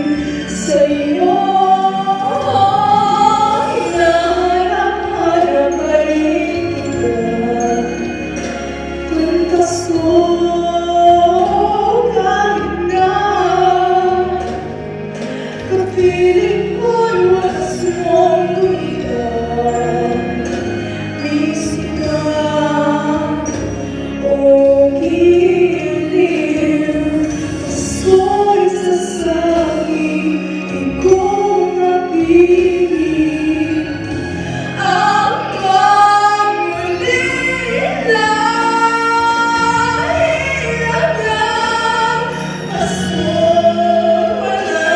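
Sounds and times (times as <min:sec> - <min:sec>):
choir singing christmas song: 0:00.0 - 0:44.9
instrumental accompaniment: 0:00.0 - 0:44.9.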